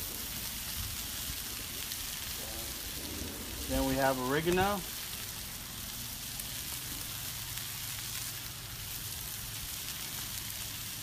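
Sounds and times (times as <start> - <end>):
food sizzling on griddle: 0.0 - 11.0.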